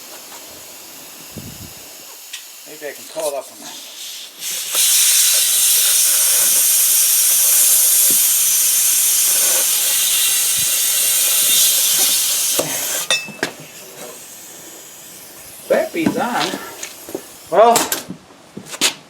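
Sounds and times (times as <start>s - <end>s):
compressed air hissing into tire: 0.0s - 17.8s.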